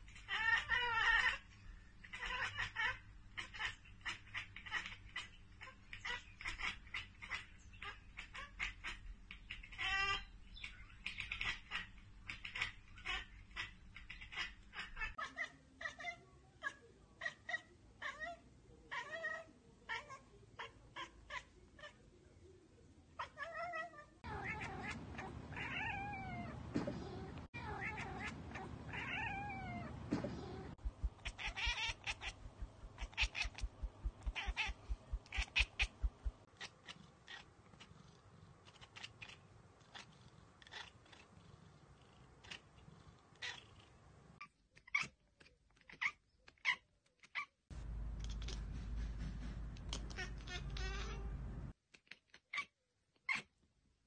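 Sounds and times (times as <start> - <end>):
cats chattering: 0.0 - 22.1, 23.2 - 52.7.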